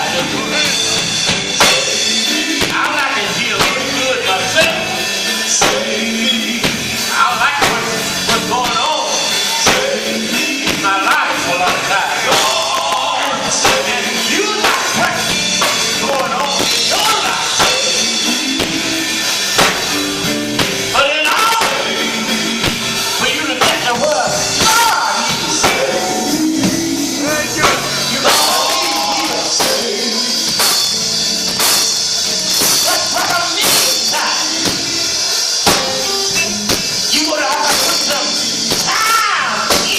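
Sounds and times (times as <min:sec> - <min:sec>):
band with drum kit: 0:00.0 - 0:39.9
voices singing: 0:00.0 - 0:39.9.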